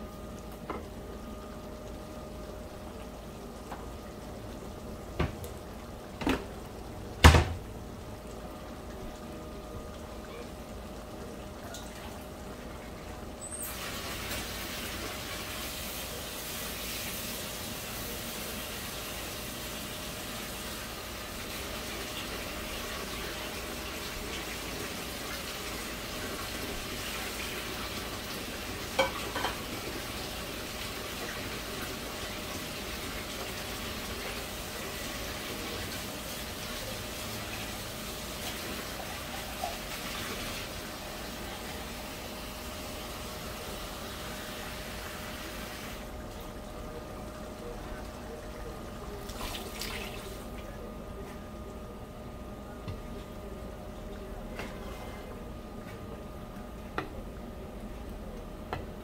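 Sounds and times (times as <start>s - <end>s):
curry bubbling in a pan: 0.0s - 49.4s.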